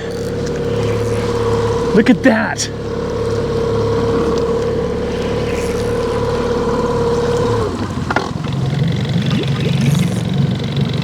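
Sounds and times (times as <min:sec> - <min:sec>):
outboard motor whining: 0:00.0 - 0:11.0.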